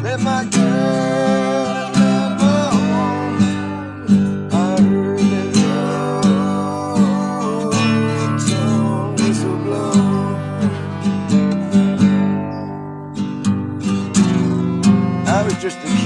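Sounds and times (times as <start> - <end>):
sliding melody line: 0.0 - 13.0, 13.6 - 16.0
acoustic guitar strumming: 0.0 - 16.0.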